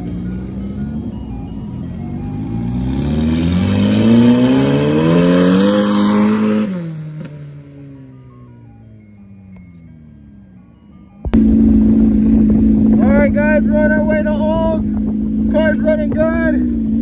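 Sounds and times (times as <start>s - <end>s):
car engine accelerating: 0.0s - 10.3s, 11.2s - 17.0s.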